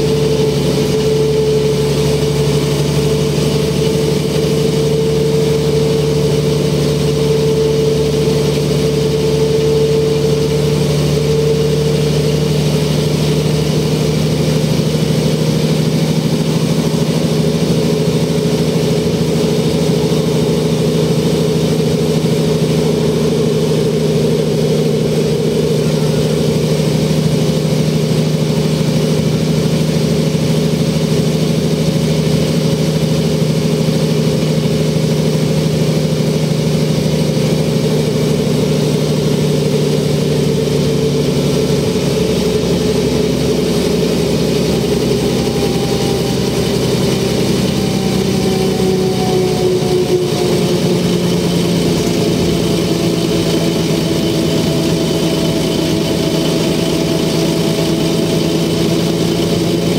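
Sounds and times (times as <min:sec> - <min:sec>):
bus engine drone inside cabin: 0:00.0 - 0:59.9.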